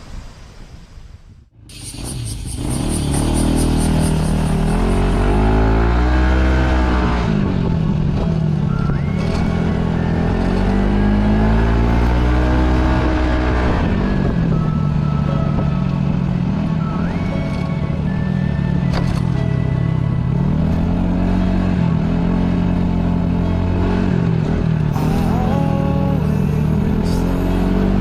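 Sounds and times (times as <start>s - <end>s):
scooter engine accelerating: 1.6s - 28.0s.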